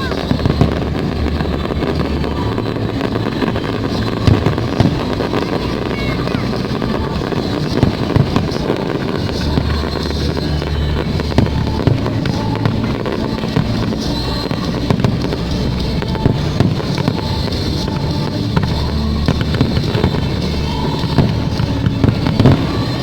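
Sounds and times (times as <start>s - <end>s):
continuous rumble: 0.0s - 23.0s
fireworks bursting bangs: 0.0s - 23.0s
music playing: 0.0s - 23.0s.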